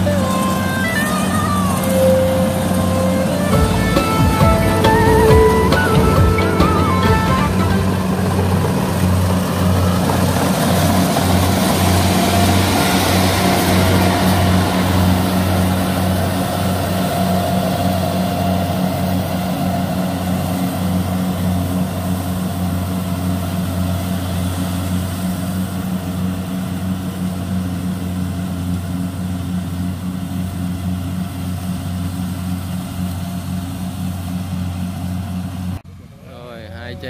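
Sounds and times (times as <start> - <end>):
combine harvester diesel engine: 0.0 - 37.0.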